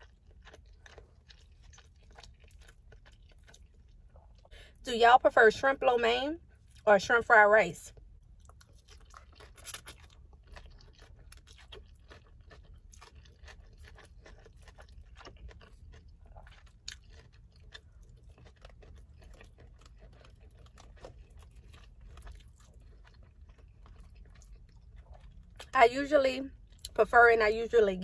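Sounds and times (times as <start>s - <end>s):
person chewing noodles: 0.0s - 4.8s, 7.9s - 25.8s, 26.6s - 27.0s
low steady hum: 0.0s - 28.0s.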